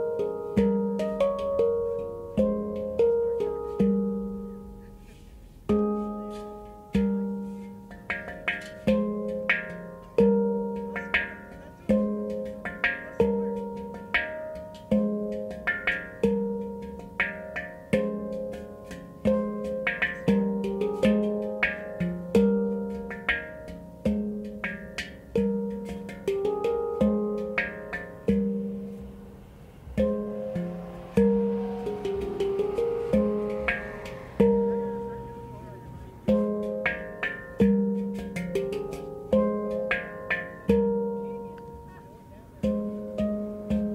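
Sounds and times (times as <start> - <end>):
handpan rhythmic groove: 0.0 - 43.9.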